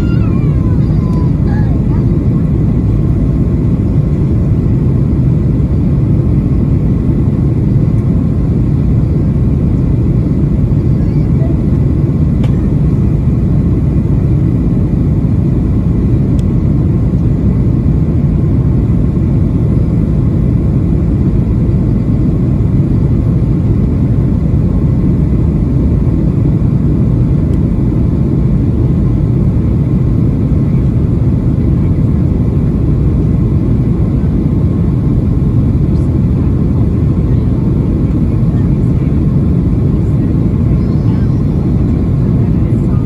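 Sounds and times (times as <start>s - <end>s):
airplane cabin engine roar: 0.0s - 43.0s.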